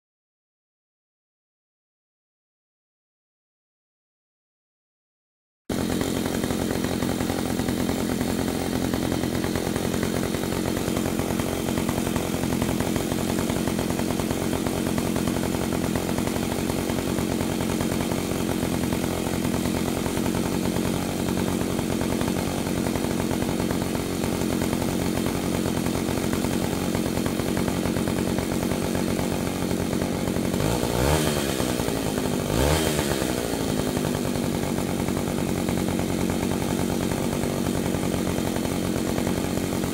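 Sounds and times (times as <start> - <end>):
chainsaw engine running: 5.7 - 39.9.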